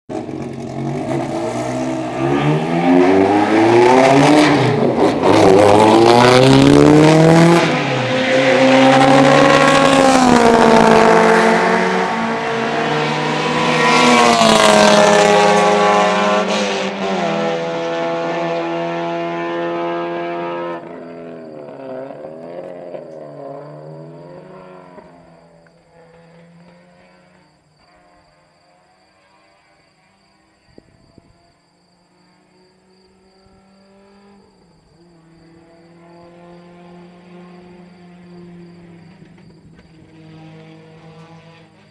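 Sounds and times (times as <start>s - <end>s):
race car engine revving: 0.1s - 27.4s, 35.2s - 41.9s.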